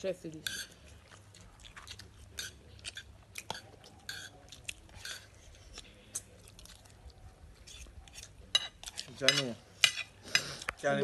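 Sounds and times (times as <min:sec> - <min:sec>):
people chewing: 0:00.4 - 0:11.0.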